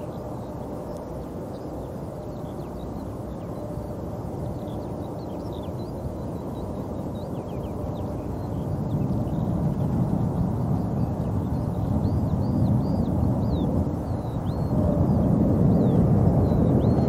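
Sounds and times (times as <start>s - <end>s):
jet engines rumbling: 0.0s - 17.0s
small birds chirping: 0.0s - 17.0s.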